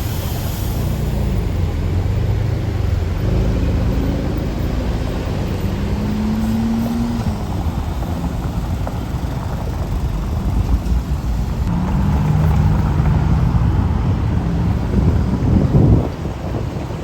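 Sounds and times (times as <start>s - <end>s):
heavy vehicle engine passing: 0.0s - 17.0s
roadside traffic noise: 0.0s - 17.0s.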